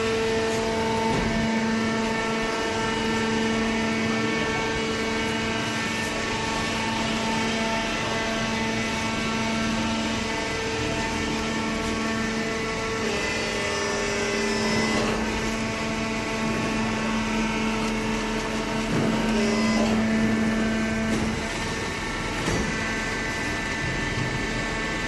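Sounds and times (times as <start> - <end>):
electric motor and pump humming: 0.0 - 25.0.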